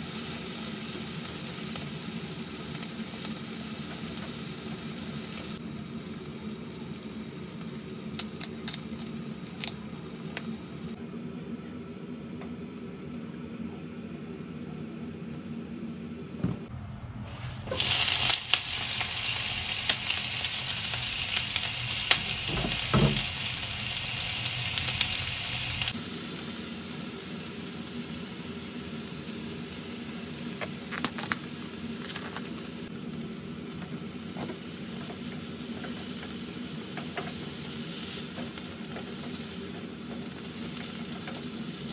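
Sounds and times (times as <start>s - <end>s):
food sizzling in frying pan: 0.0s - 11.0s, 17.6s - 41.9s.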